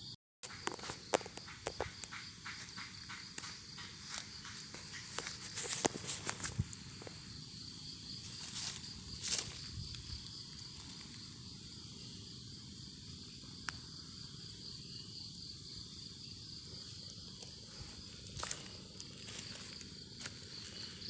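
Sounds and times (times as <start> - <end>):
insects droning: 0.4 - 21.0.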